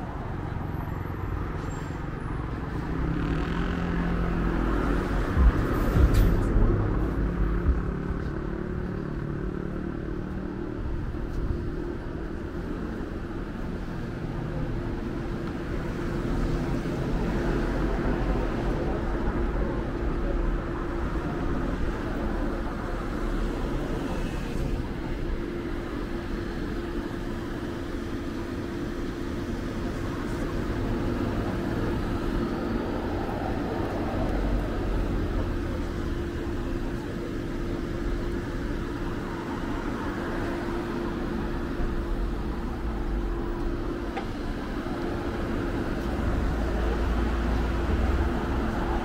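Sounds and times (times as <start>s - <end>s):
cars driving past: 0.0s - 49.0s
steady traffic hum: 0.0s - 49.0s.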